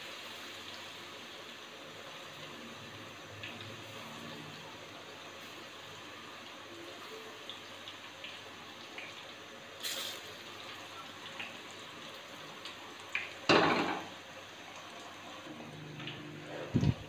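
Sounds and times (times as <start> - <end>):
battered slices deep-frying in oil: 0.0 - 17.0.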